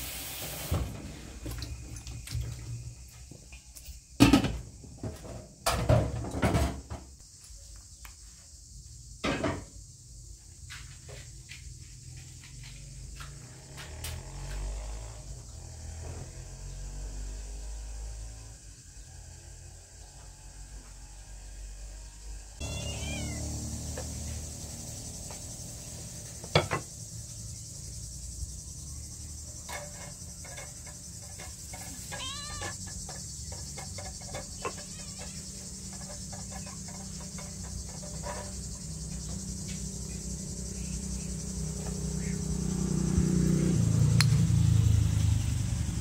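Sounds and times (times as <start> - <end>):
high insect-like hiss: 0.0 - 46.0.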